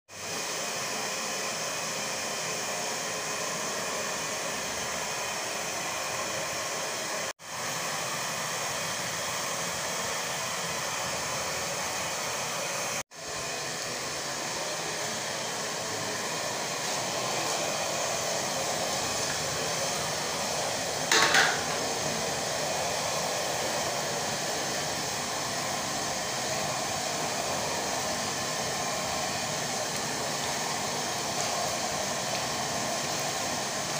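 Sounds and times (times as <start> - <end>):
gas burner flame hissing: 0.2 - 33.9.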